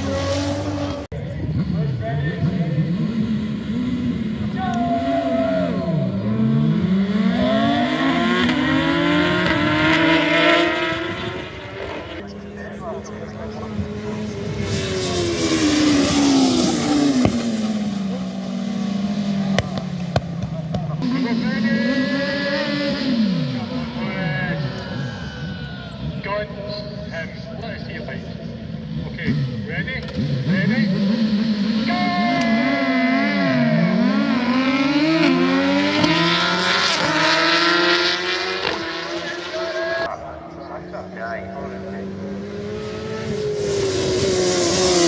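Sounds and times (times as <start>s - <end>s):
racing vehicle passing at speed: 0.0s - 45.0s.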